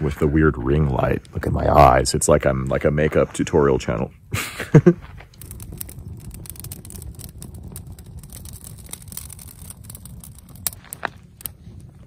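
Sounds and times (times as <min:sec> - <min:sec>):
campfire crackling and popping: 0:00.0 - 0:12.0
low fire rumble: 0:00.0 - 0:12.0.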